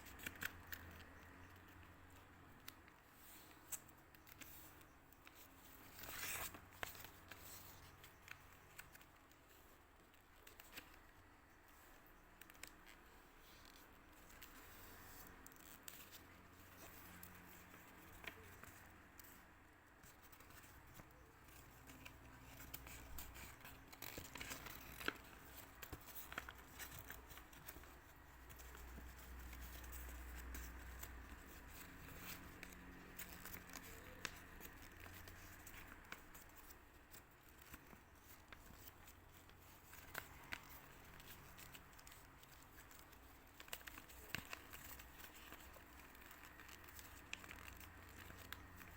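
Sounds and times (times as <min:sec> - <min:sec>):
paper being folded and creased: 0:00.0 - 0:48.9
small clicks and rustles: 0:00.0 - 0:48.9.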